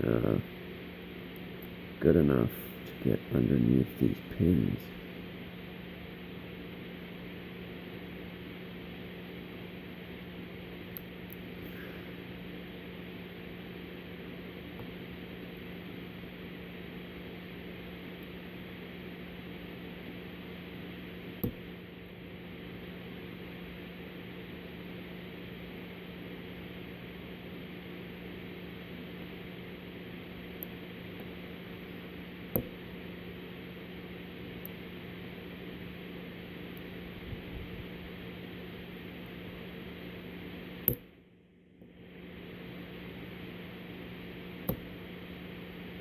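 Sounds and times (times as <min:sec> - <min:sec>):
low hum and hiss: 0:00.0 - 0:46.0.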